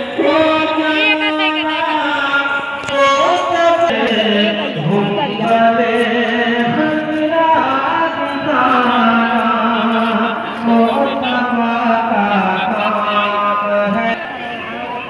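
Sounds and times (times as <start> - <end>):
person chanting long held notes: 0.0 - 15.0.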